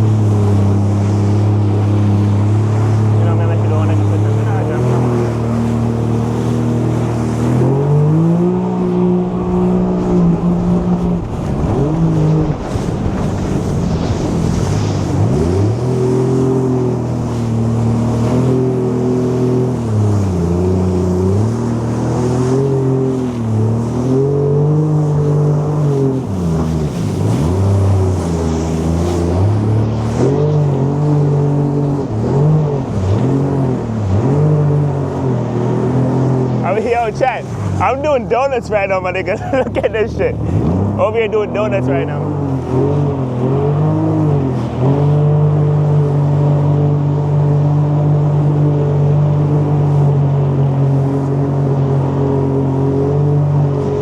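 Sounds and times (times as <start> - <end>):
jet ski engine revving: 0.0 - 54.0.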